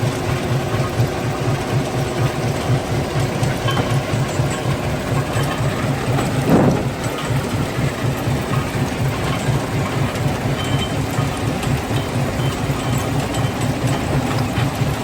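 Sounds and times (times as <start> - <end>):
stone-crushing machinery throbbing: 0.0 - 15.0.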